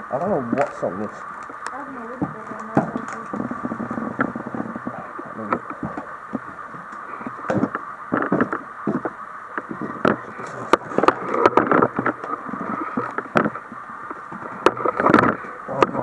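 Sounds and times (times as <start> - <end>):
crackles and sharp clicks: 0.0 - 16.0.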